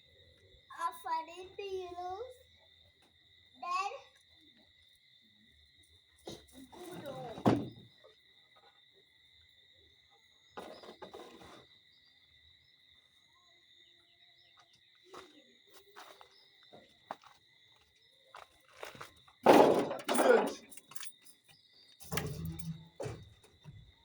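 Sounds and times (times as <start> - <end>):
crickets droning: 0.0 - 24.0.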